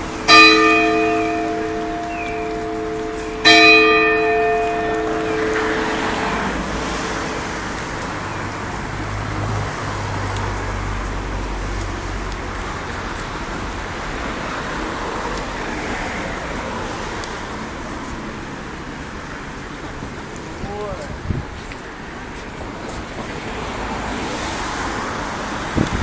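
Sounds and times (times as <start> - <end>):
city road traffic: 0.0 - 26.0
vehicle engine hum: 0.0 - 26.0.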